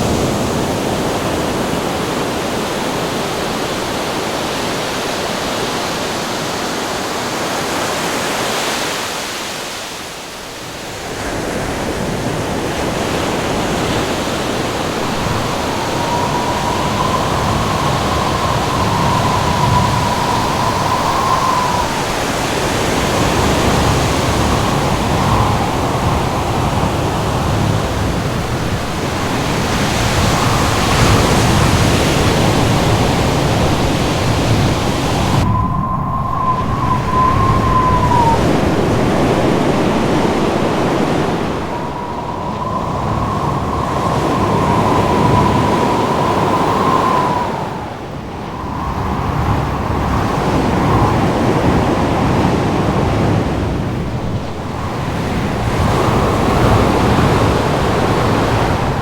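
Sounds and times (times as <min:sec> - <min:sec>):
high wind howl whistling: 0:00.0 - 0:59.0
ocean surf and wind wash: 0:00.0 - 0:59.0.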